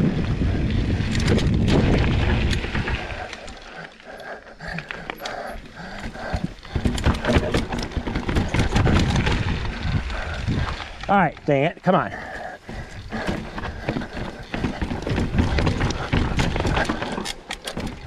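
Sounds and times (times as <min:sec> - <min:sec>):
bike tyres rumbling on dirt: 0:00.0 - 0:18.0
bike clattering down steps: 0:01.1 - 0:10.4, 0:12.3 - 0:18.0.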